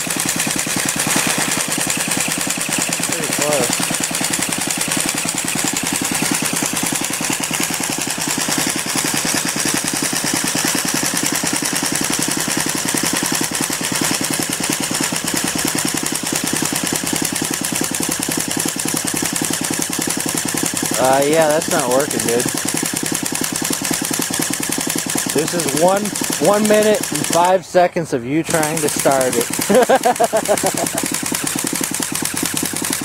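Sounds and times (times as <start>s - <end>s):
engine cranking without starting: 0.0s - 33.0s.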